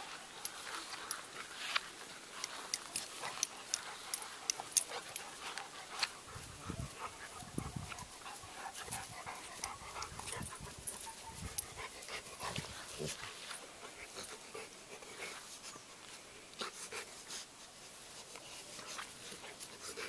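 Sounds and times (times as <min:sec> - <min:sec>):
dogs panting: 0:00.0 - 0:20.0.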